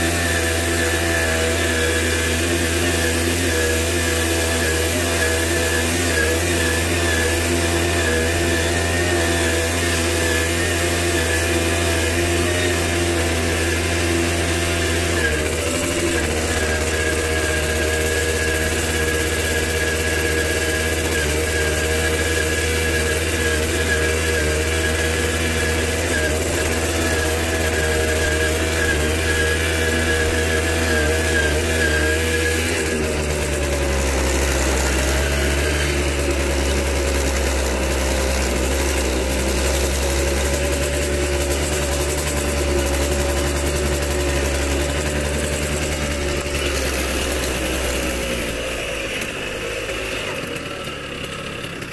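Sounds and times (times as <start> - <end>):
two-stroke engine running: 0.0 - 51.9.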